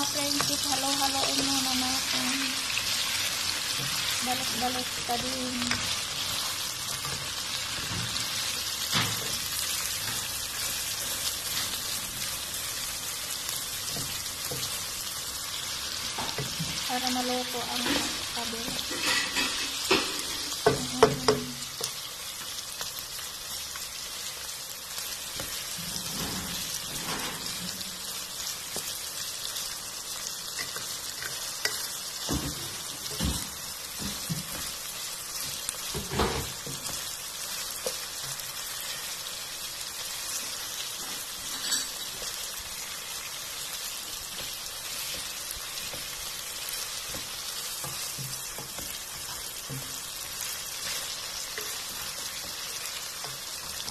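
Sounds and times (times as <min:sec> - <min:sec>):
chicken sizzling in oil: 0:00.0 - 0:53.9.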